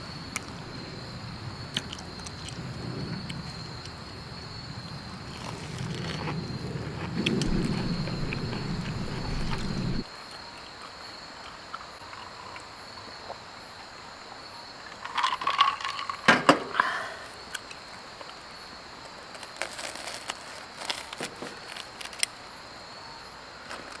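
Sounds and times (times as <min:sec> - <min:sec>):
high insect trill: 0:00.0 - 0:23.7.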